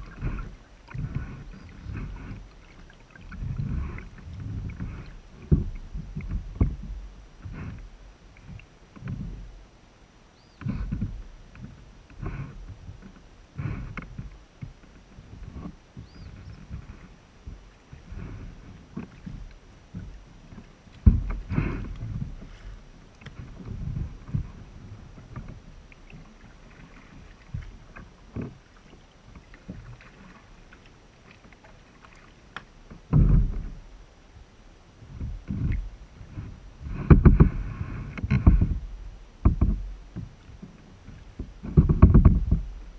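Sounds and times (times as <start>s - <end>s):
dull thumps through kayak hull: 0.0s - 9.6s, 10.5s - 33.9s, 35.0s - 42.9s
paddle splashing in water: 0.0s - 9.8s, 10.4s - 34.1s, 34.9s - 42.9s.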